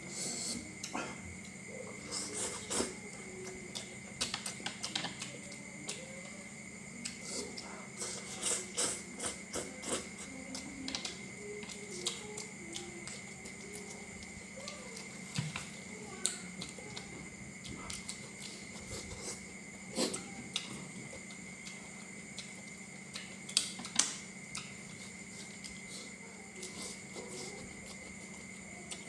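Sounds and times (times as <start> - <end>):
faint steady hum: 0.0 - 29.0
chewing and crunching food: 0.8 - 29.0.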